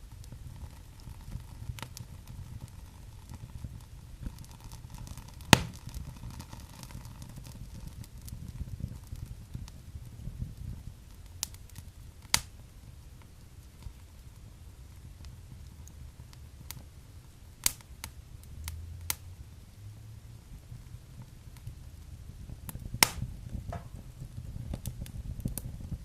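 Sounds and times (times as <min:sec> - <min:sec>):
low steady rumble: 0:00.0 - 0:26.0
wood fire crackling and popping: 0:00.0 - 0:26.0.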